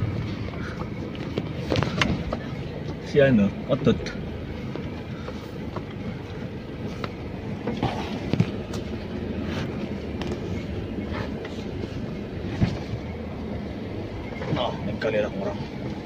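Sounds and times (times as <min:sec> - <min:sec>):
car knocking and rattling: 0:00.0 - 0:16.0
tyres and engine rumbling: 0:00.0 - 0:16.0.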